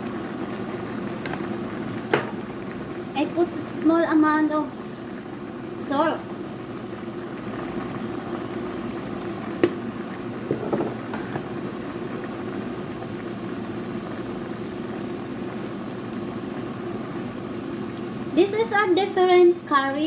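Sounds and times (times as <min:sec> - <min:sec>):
curry bubbling in a pot: 0:00.0 - 0:19.9.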